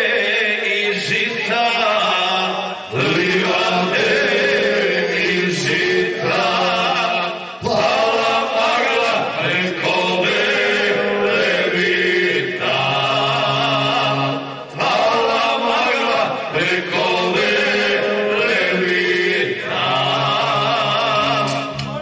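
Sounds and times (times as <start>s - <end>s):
male vocal group singing: 0.0s - 22.0s.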